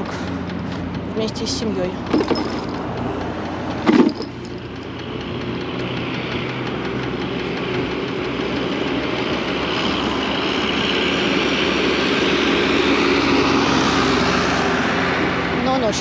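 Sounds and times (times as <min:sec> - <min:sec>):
tyre noise on road: 0:00.0 - 0:16.0.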